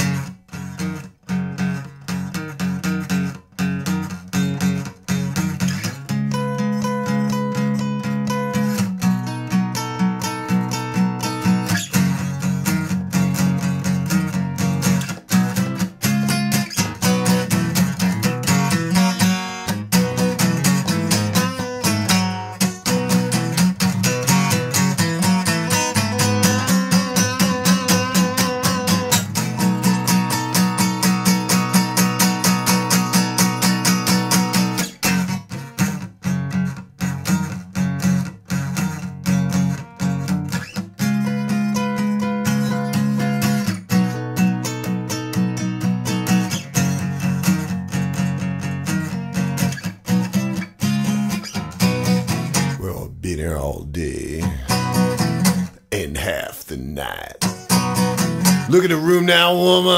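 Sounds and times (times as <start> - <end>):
guitar strumming and picking: 0.0 - 52.8, 54.4 - 55.8, 57.2 - 59.9.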